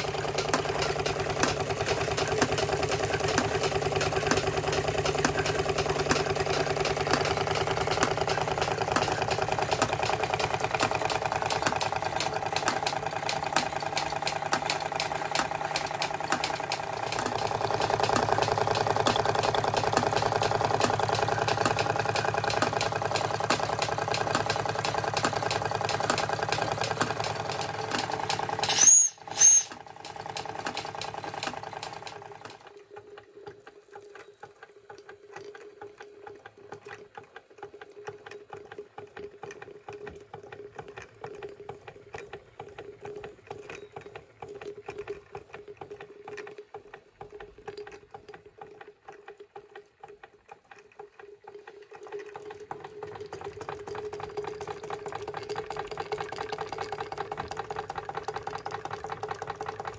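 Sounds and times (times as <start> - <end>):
model steam engine running: 0.0 - 59.9.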